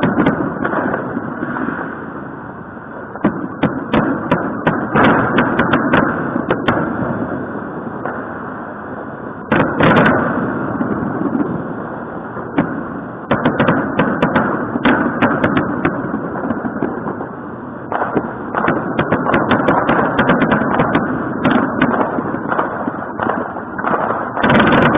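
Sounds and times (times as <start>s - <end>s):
distant firework bangs: 0.0s - 2.2s, 3.0s - 8.7s, 9.4s - 11.8s, 12.4s - 24.9s
close firework cracks and crackles: 0.0s - 24.9s.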